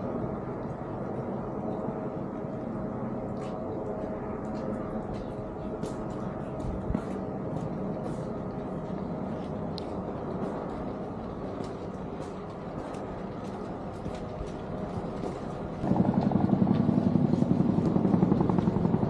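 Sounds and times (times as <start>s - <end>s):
helicopter rotor beating: 0.0s - 19.0s.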